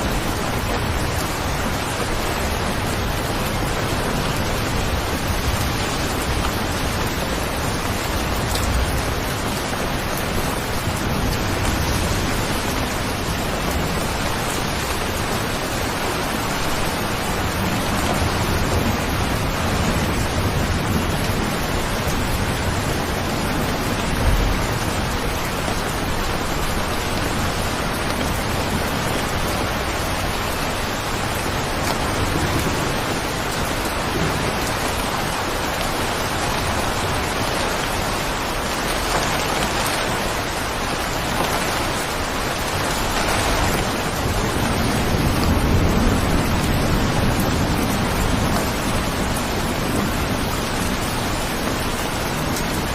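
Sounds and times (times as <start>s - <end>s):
dense rain falling: 0.0s - 52.9s.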